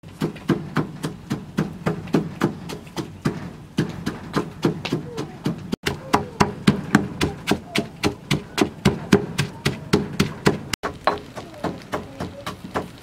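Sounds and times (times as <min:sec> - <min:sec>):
pestle pounding in stone mortar: 0:00.0 - 0:13.0.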